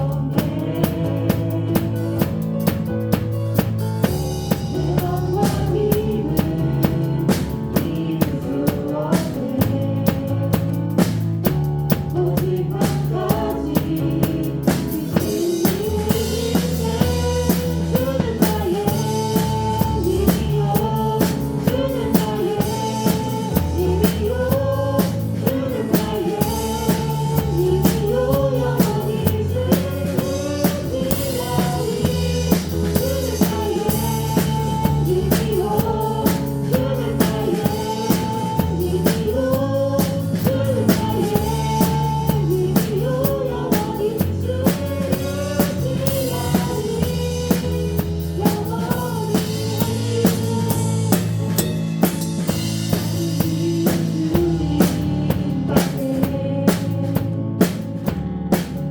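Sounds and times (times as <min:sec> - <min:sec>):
drum kit beat: 0:00.0 - 0:58.9
live praise band music: 0:00.0 - 0:58.9.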